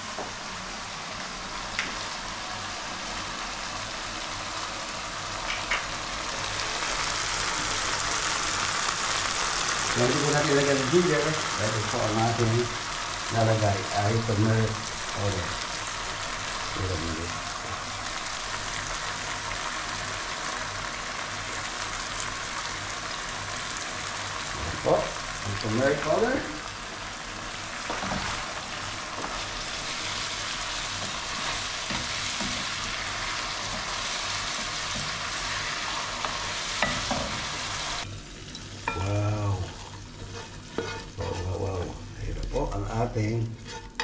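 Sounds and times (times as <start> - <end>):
sauce sizzling in a frying pan: 0.0 - 44.0.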